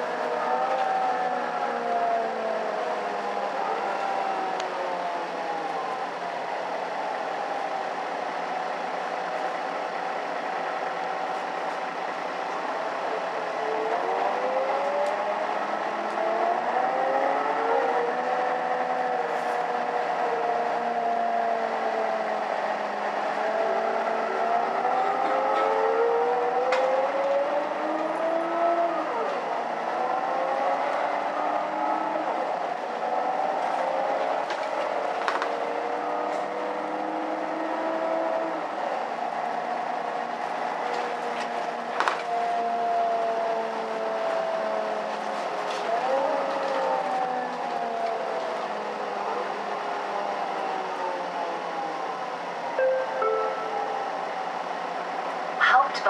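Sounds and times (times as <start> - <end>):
bus engine drone with whine: 0.0 - 56.0.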